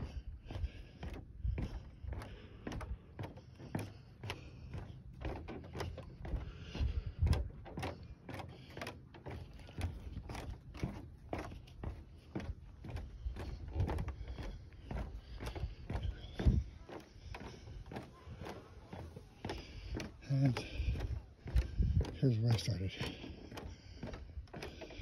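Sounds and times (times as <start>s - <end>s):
footsteps on wooden boardwalk: 0.0s - 25.0s.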